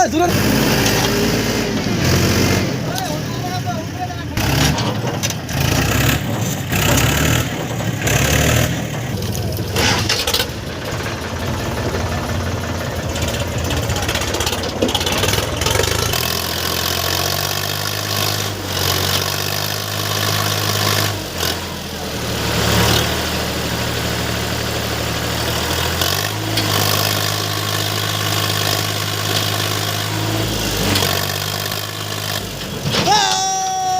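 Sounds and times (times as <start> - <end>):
heavy diesel machinery engine: 0.0 - 33.9.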